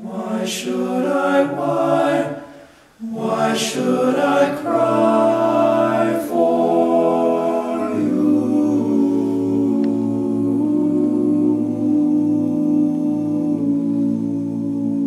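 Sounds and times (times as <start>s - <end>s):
male vocal group holding a chord: 0.0s - 15.0s.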